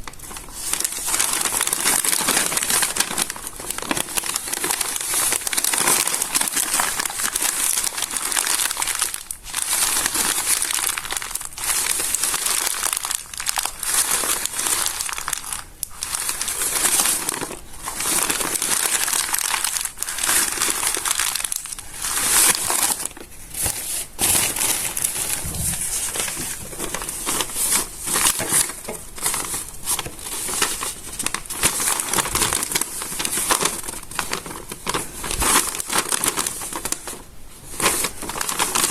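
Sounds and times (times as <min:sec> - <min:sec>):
stiff paper pages crinkling: 0:00.0 - 0:38.9.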